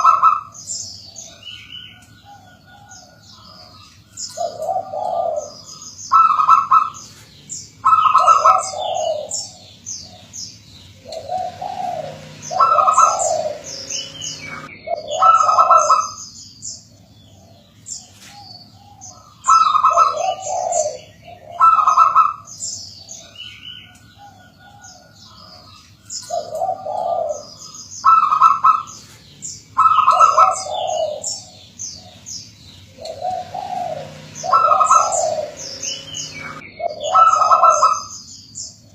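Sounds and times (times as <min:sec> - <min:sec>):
dove cooing: 0:00.0 - 0:16.2, 0:16.9 - 0:38.2
small birds chirping: 0:00.0 - 0:38.9.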